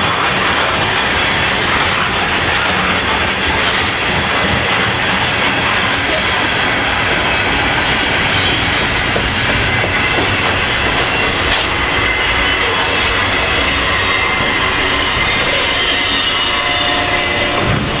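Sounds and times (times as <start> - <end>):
high wheel squeal: 0.0 - 18.0
train wheels rumbling on rail: 0.0 - 18.0
wheels clicking over rail joints: 0.0 - 18.0.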